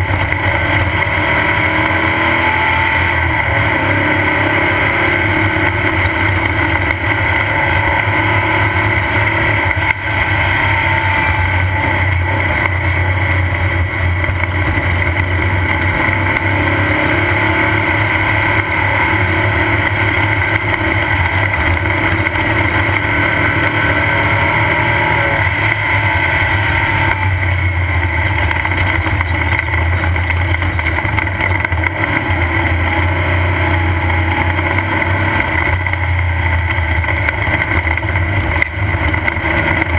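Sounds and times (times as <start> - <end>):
chassis noise: 0.0 - 39.9
race car engine droning: 0.0 - 39.9.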